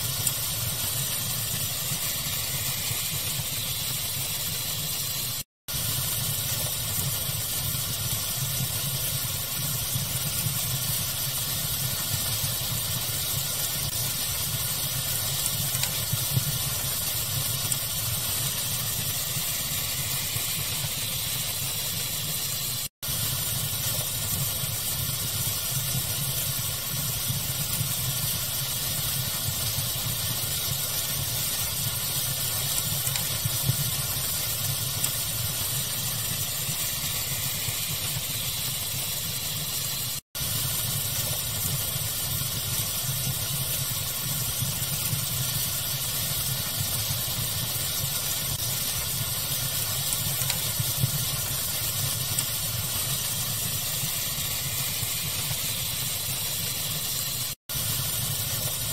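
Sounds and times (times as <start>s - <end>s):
faint fire crackles: 0.0s - 58.9s
steady hiss: 0.0s - 58.9s.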